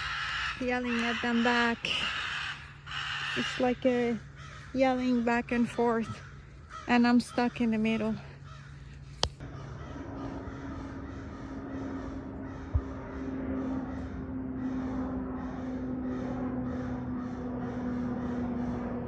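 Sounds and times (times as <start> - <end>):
crows cawing: 0.0 - 19.0
steady droning hum: 0.0 - 19.0.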